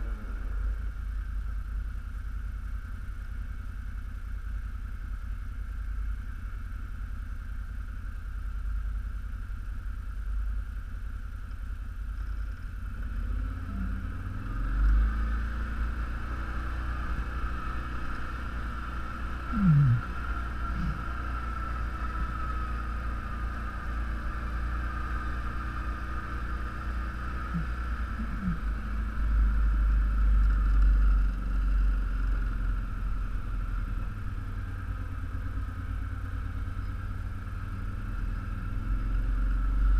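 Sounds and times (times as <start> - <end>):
all-terrain vehicle engine running: 0.0 - 39.9.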